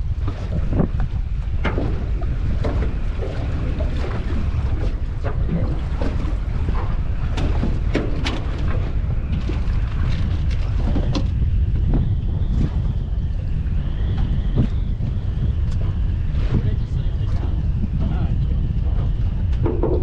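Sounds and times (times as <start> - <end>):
wind buffeting microphone: 0.0 - 20.0
knocks and clunks on metal boat: 0.2 - 12.9, 14.1 - 20.0.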